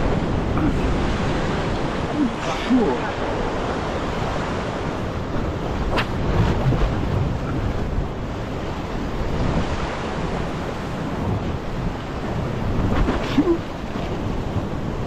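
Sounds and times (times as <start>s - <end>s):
ocean surf breaking on rocks: 0.0s - 15.0s
wind buffeting microphone: 0.0s - 15.0s.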